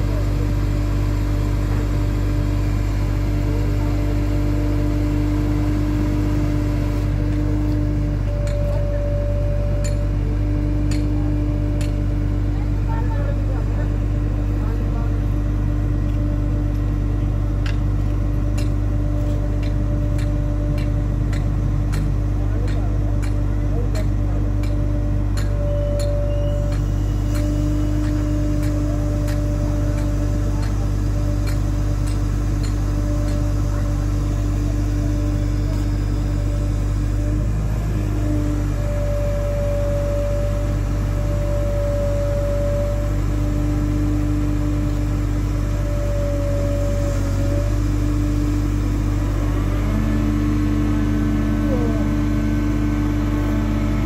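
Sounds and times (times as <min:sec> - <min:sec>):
heavy engine humming: 0:00.0 - 0:54.0.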